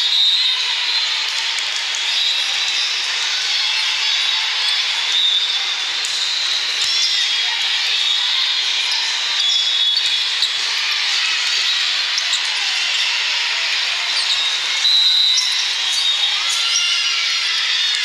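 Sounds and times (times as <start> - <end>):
crowd hubbub: 0.0 - 18.0.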